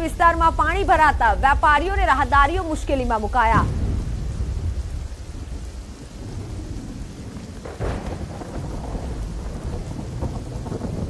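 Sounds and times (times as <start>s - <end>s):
deep steady rumble: 0.0s - 11.0s
heavy rain pouring: 0.0s - 11.0s.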